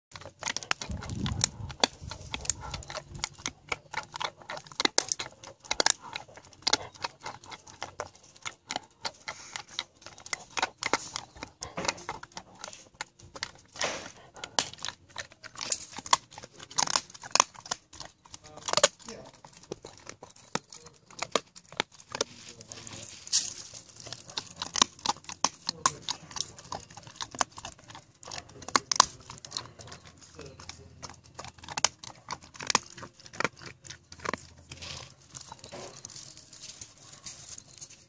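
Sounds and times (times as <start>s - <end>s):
dog cracking walnut shell: 0.1s - 37.2s.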